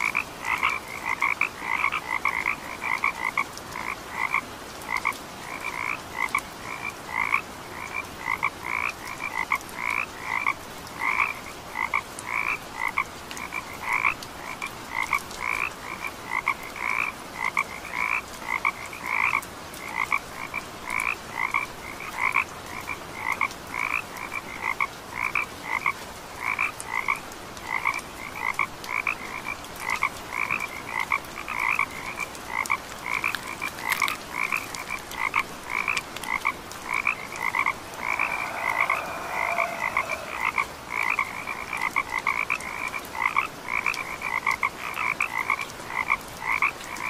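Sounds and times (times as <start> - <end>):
frogs croaking: 0.0 - 47.0.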